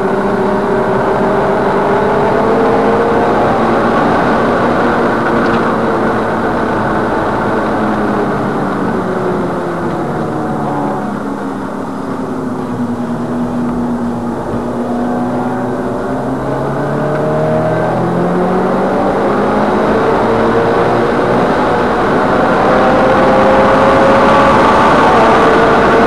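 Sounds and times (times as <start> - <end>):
car engine accelerating: 0.0 - 26.0
tyre and road noise: 0.0 - 26.0.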